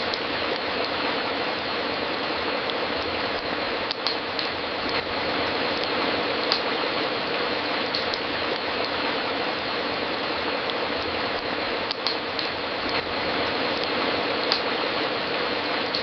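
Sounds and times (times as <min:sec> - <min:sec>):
fireplace crackling: 0:00.0 - 0:16.0.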